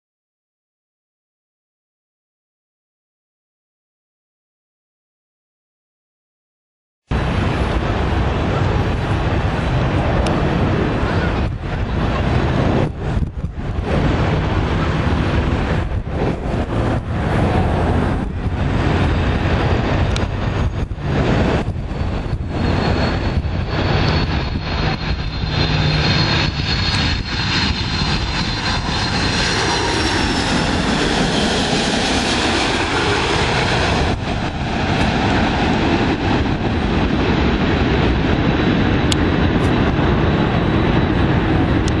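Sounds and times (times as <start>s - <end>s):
jet airliner passing overhead: 7.1s - 42.0s.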